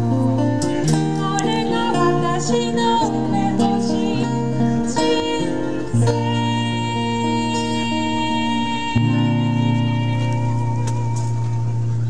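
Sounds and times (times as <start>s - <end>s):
guitar accompaniment: 0.0s - 12.0s
woman singing: 0.6s - 11.7s.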